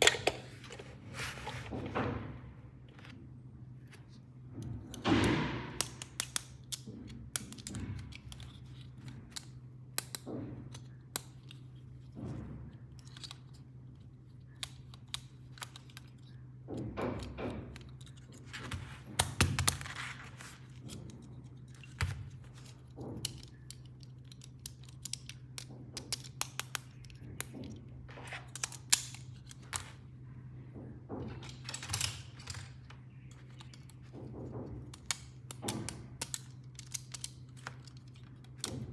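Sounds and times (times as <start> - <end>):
plastic pieces clicking and tapping: 3.9 - 30.0, 31.2 - 38.9.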